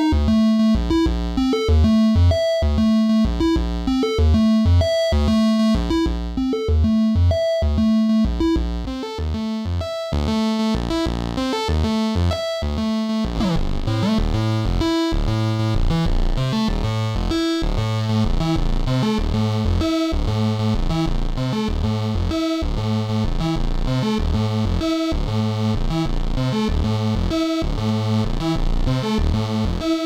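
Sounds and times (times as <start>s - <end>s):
synth bass line: 0.0s - 30.0s
synthesizer riff: 0.0s - 30.0s.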